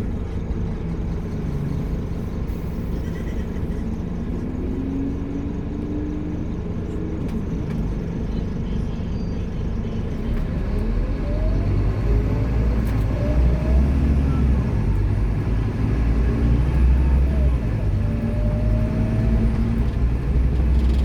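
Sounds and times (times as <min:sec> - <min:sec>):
bus engine accelerating: 0:00.0 - 0:21.0.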